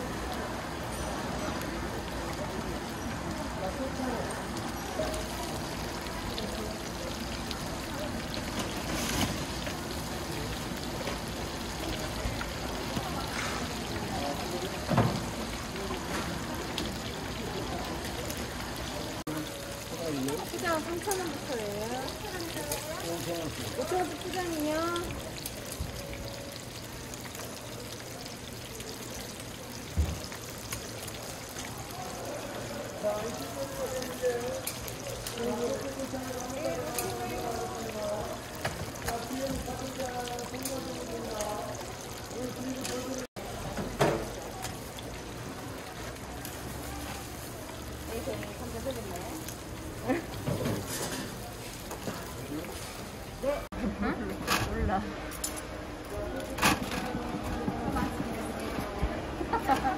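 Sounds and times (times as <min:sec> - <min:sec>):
oil sizzling in a wok: 0:00.0 - 0:53.7.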